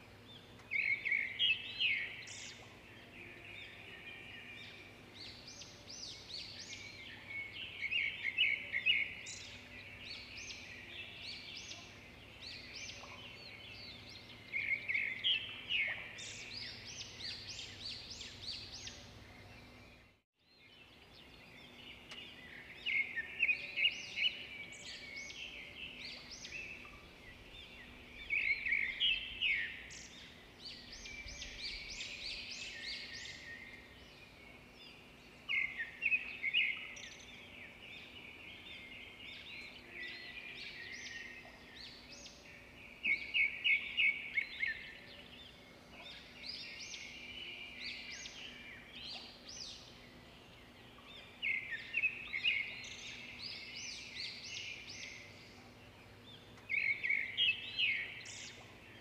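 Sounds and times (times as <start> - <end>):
birds chirping and trilling: 0.0 - 59.0
faint steady hum: 0.0 - 59.0.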